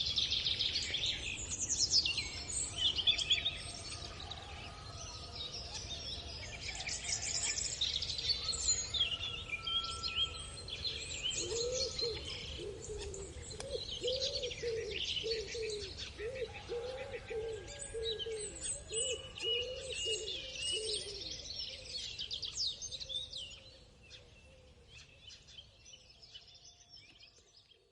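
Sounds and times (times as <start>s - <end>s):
small birds chirping and singing: 0.0s - 27.9s.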